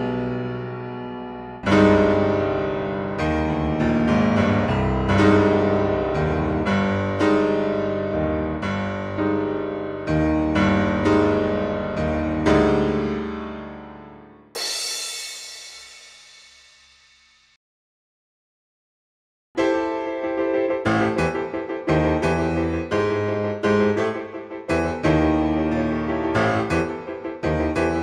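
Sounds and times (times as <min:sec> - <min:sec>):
slow piano-like chords: 0:00.0 - 0:15.1, 0:19.6 - 0:28.0.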